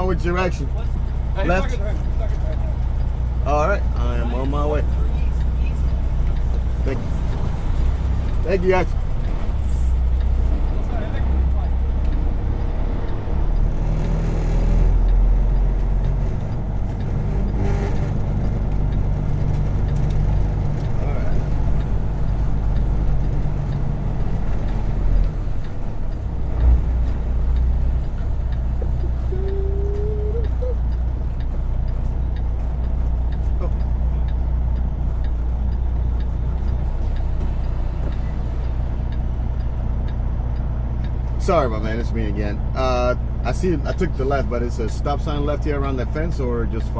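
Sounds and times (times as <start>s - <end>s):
faint ticking: 0.0s - 46.9s
truck diesel engine pulling away: 0.0s - 46.9s.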